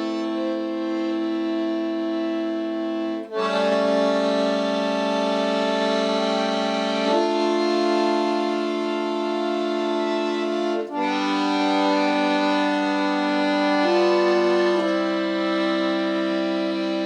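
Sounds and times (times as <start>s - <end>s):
accordion playing slow chords: 0.0s - 17.0s.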